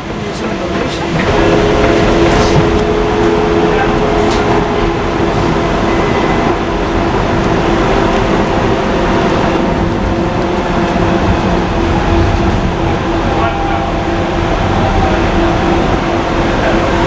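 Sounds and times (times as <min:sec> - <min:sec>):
train drive hum: 0:00.0 - 0:17.0
train wheels rumbling on rails: 0:00.0 - 0:17.0.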